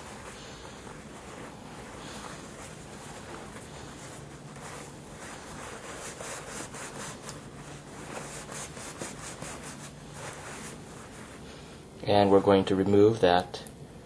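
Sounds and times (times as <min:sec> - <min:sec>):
paper towel rubbing on metal bolt: 0:00.0 - 0:11.4.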